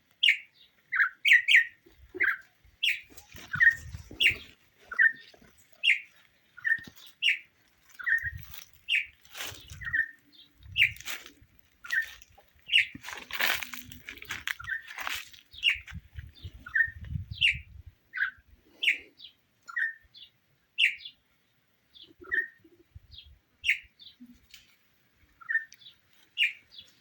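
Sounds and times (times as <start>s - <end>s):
small birds chirping: 0.1s - 27.0s.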